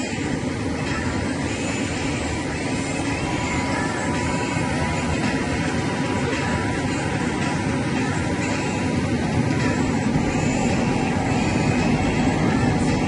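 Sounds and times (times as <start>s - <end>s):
engine roar: 0.0s - 13.0s
faint high whine: 0.0s - 13.0s.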